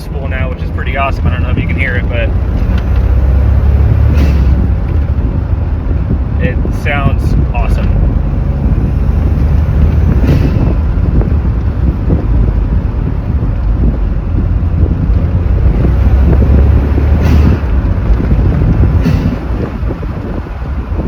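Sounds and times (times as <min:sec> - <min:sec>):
car engine pulling: 0:00.0 - 0:21.0
wind buffeting microphone: 0:00.0 - 0:21.0.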